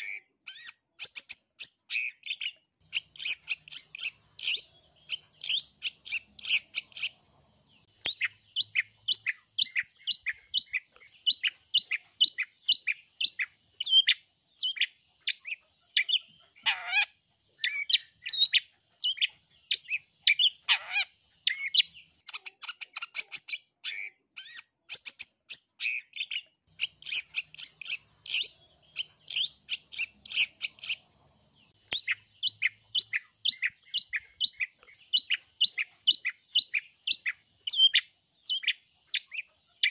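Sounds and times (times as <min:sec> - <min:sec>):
shrike singing sharp chirps: 0:00.0 - 0:23.6, 0:24.4 - 0:39.9
bird rapid chatter: 0:00.0 - 0:39.9.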